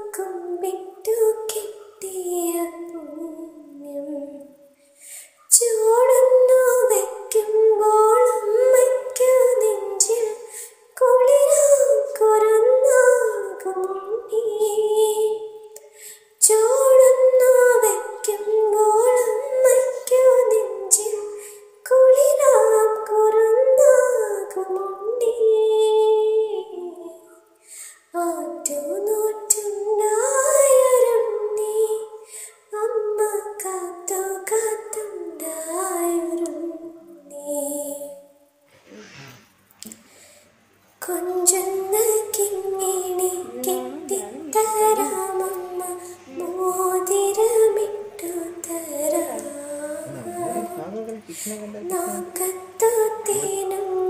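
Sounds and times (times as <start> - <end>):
woman singing unaccompanied: 0.0 - 4.6, 5.5 - 38.3, 41.0 - 54.0.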